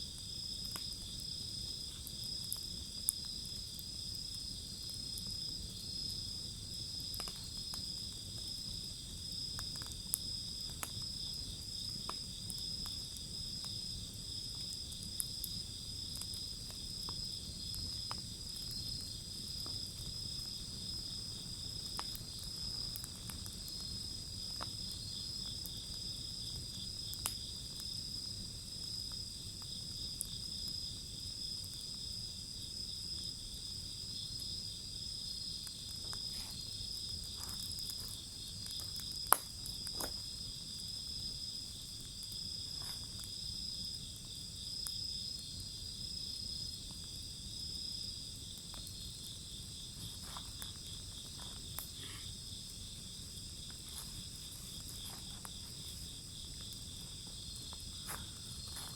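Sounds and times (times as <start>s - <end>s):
wood fire crackling: 0.0s - 58.9s
high insect trill: 0.1s - 58.9s.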